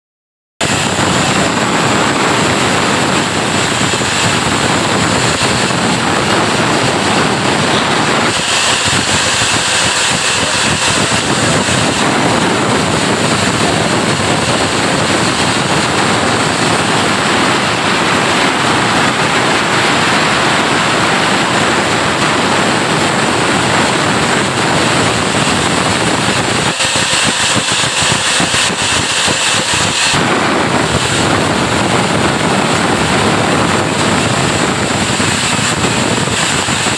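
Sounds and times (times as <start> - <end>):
band saw cutting log: 0.7 - 21.6, 22.2 - 36.9.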